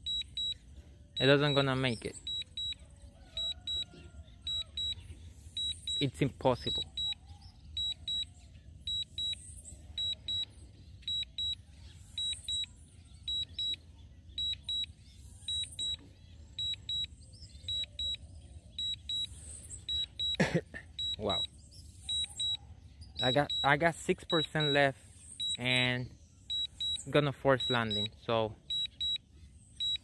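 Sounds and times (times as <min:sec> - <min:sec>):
low-battery warning beeps: 0:00.0 - 0:30.0.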